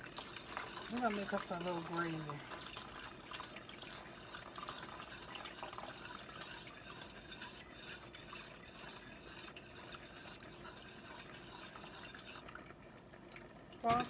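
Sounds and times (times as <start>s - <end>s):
utensil scraping a pot: 0.0s - 12.5s.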